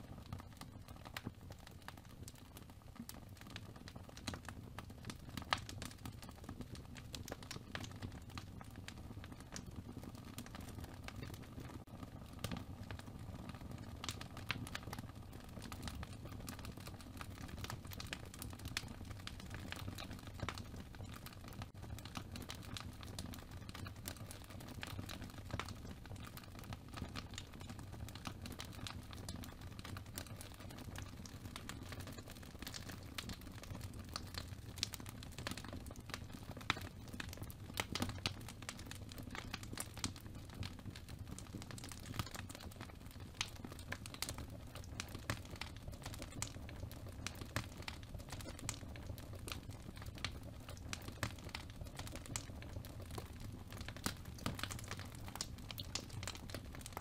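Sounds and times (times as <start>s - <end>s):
small irregular clicks and crinkles: 0.0s - 57.0s.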